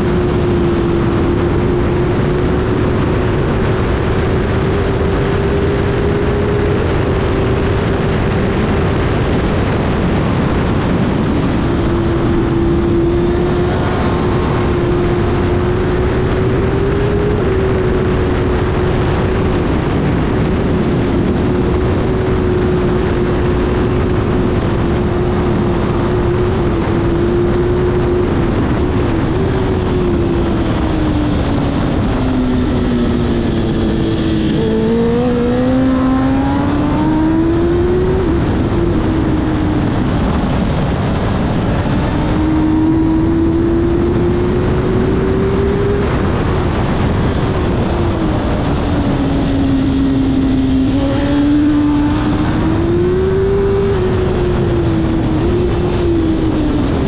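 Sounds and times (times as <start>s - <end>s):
motorcycle engine revving high: 0.0s - 57.0s
wind rush on microphone: 0.0s - 57.0s.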